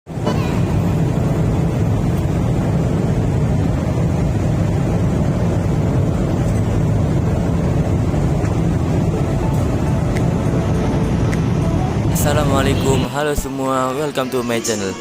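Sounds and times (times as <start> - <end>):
low vehicle rumble: 0.1 - 15.0.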